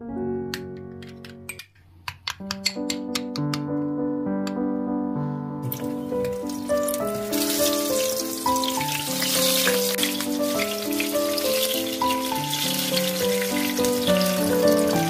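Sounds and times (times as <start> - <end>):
background music melody: 0.0 - 15.0.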